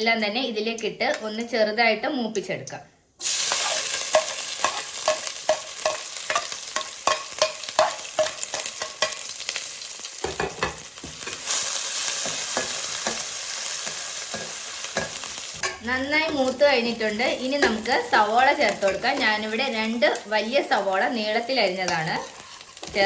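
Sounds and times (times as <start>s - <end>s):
food sizzling in hot oil: 3.2s - 23.0s.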